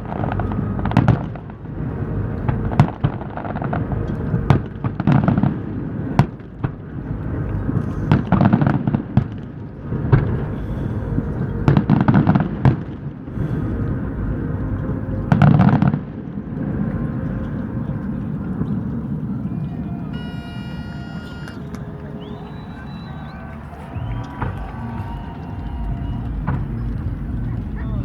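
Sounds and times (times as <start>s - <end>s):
fireworks booming: 0.0s - 16.8s, 18.5s - 28.0s
fireworks crackling: 0.0s - 28.0s
low rumble: 0.0s - 28.0s.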